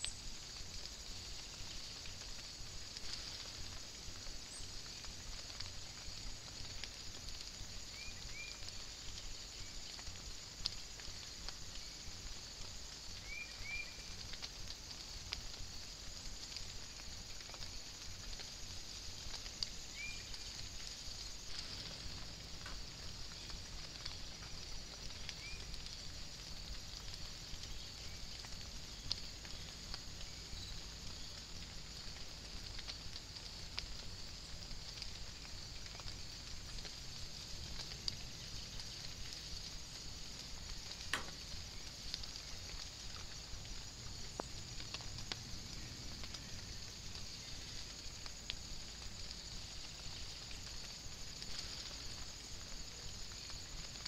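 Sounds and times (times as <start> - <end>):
light rain hiss: 0.0 - 54.0
water drips: 0.0 - 54.0.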